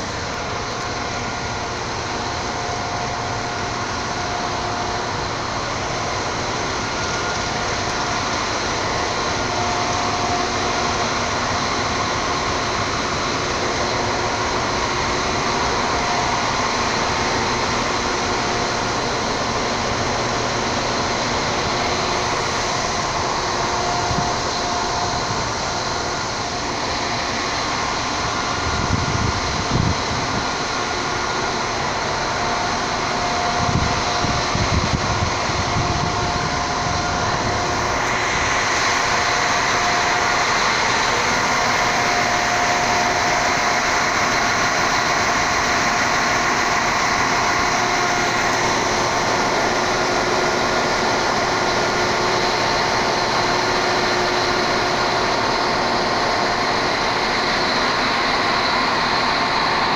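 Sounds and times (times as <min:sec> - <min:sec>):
diesel train engine: 0:00.0 - 0:59.9
faint steady whines: 0:00.0 - 0:59.9
train rumbling on rails: 0:00.0 - 0:59.9.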